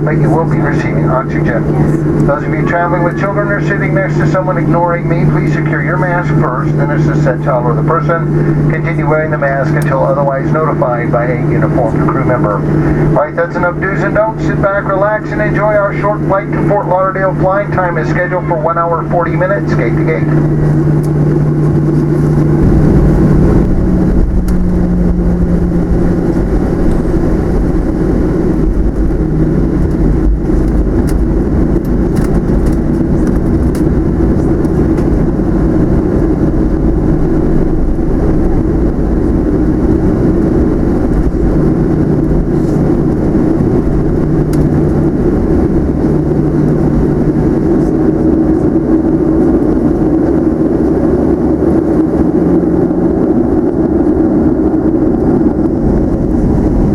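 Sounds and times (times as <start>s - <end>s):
jet engine drone in cabin: 0.0s - 56.9s
low hum: 0.0s - 56.9s.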